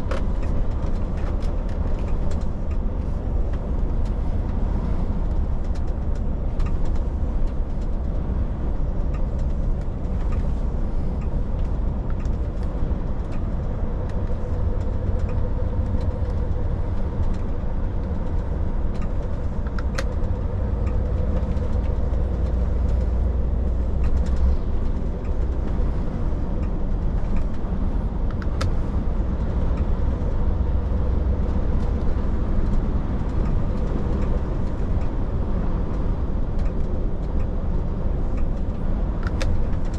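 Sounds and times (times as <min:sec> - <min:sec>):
light ticks: 0:00.0 - 0:39.9
truck engine and road rumble: 0:00.0 - 0:39.9.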